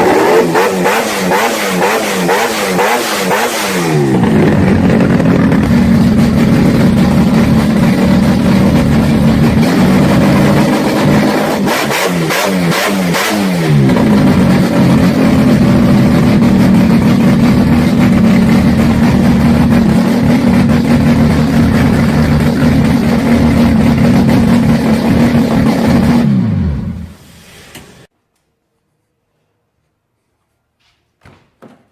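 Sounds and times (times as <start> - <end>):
engine revving hard: 0.0 - 27.2.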